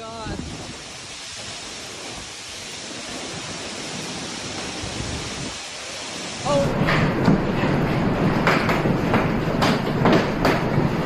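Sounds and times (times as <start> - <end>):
heavy rain downpour: 0.0 - 11.0.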